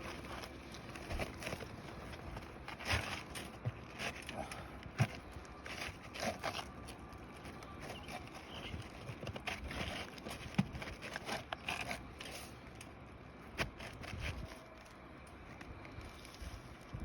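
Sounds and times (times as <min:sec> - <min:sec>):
roof shingles scraping and crackling: 0:00.0 - 0:16.9.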